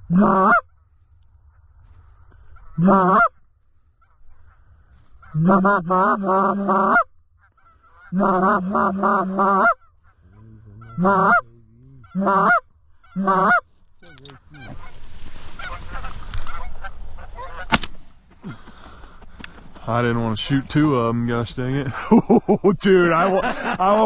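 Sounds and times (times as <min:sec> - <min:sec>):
geese honking and clucking: 0:00.0 - 0:20.6.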